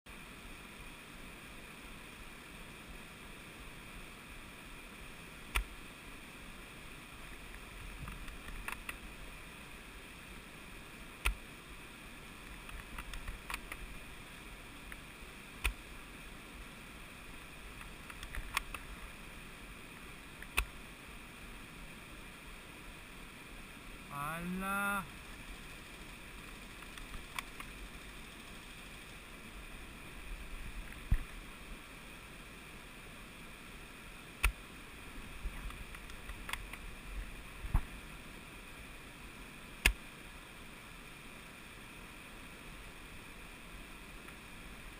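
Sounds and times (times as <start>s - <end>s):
stream rushing: 0.1s - 44.9s.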